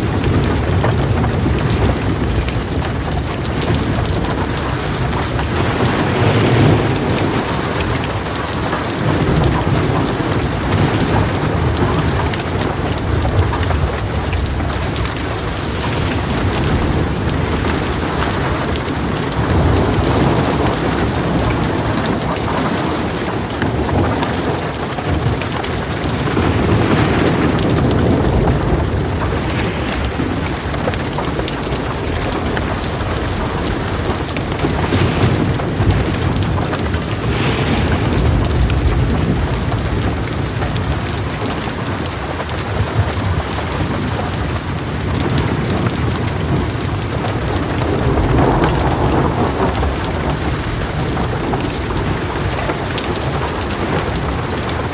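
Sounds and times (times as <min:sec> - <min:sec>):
heavy rain on a metal roof: 0:00.0 - 0:54.9
low rolling thunder: 0:00.0 - 0:54.9.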